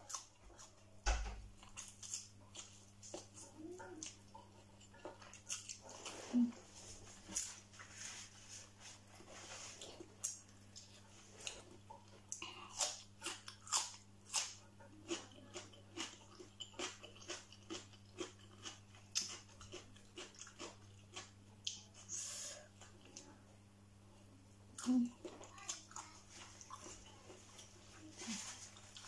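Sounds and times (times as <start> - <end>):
person chewing and crunching food: 0.0 - 23.4, 24.7 - 29.0.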